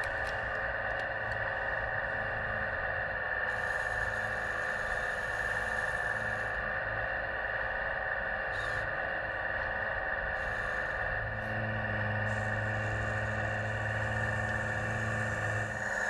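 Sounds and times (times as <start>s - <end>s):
higher whir of crane: 0.0s - 16.0s
model crane droning: 0.0s - 16.0s.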